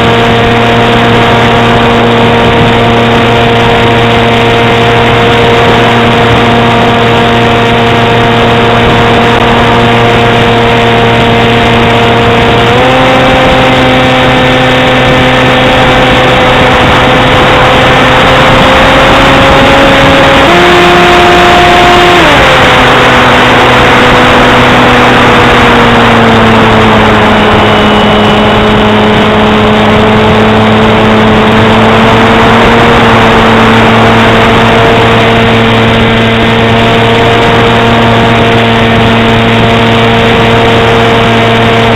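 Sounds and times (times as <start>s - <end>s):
drone motor and propeller whine: 0.0s - 41.9s.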